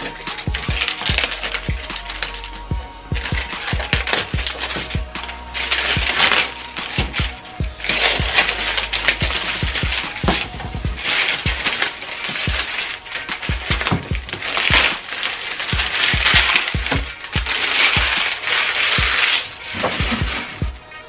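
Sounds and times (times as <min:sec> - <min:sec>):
background music: 0:00.0 - 0:21.0
plastic wrapping crinkling: 0:00.0 - 0:21.0.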